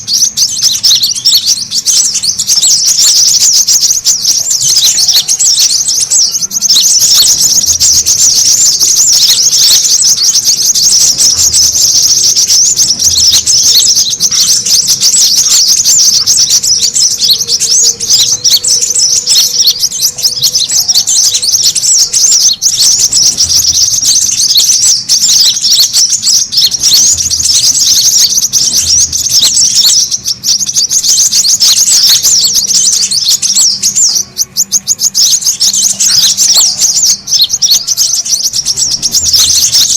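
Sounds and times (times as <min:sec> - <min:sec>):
birds twittering rapidly: 0:00.0 - 0:39.9.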